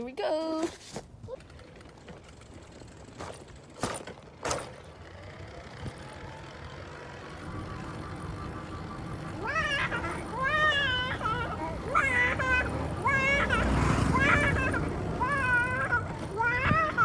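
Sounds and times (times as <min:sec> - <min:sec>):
bicycle rumbling: 0:00.8 - 0:17.0.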